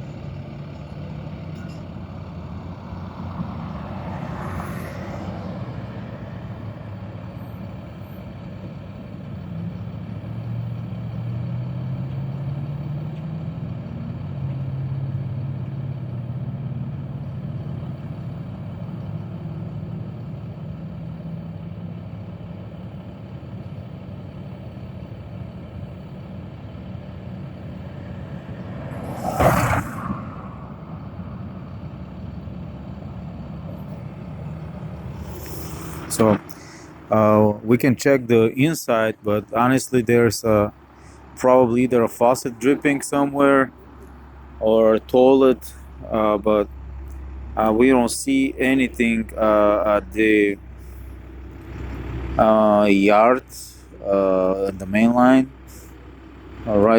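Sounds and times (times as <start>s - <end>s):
vehicle engine rumbling: 0.0s - 56.9s.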